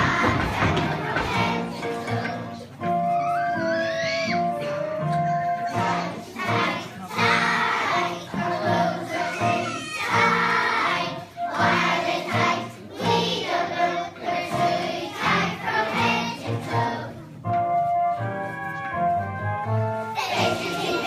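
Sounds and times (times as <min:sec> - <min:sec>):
children's choir singing: 0:00.0 - 0:17.4, 0:20.1 - 0:21.0.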